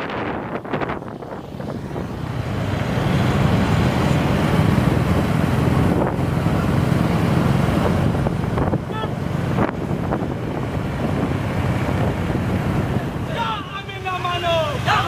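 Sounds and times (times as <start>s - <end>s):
wind buffeting microphone: 0.0s - 14.9s
motorcycle engines: 0.0s - 15.0s.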